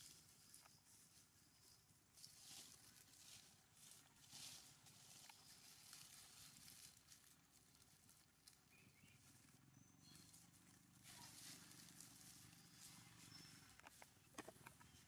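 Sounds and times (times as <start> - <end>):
soft ticks and rustles: 0.0 - 15.0.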